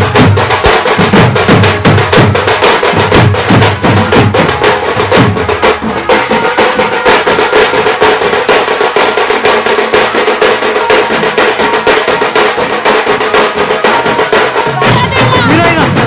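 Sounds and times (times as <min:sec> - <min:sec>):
rapid drum strokes: 0:00.0 - 0:16.0.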